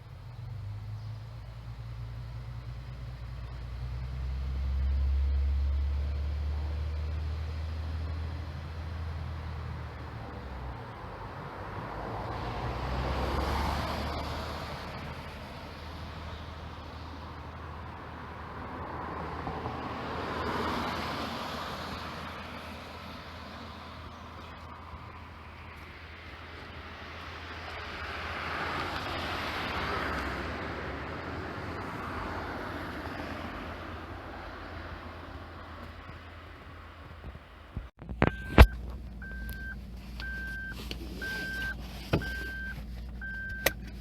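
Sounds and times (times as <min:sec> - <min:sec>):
vehicles passing: 0:00.0 - 0:44.0.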